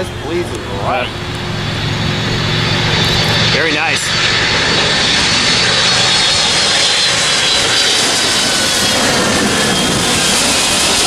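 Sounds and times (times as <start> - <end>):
faint high engine whine: 0.0 - 11.0
jet engines roaring overhead: 0.0 - 11.0.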